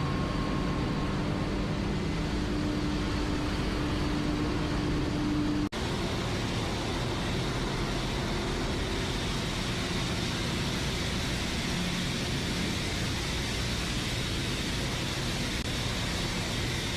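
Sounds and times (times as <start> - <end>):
low hum: 0.0 - 16.8
engine room machinery drone: 0.0 - 16.9.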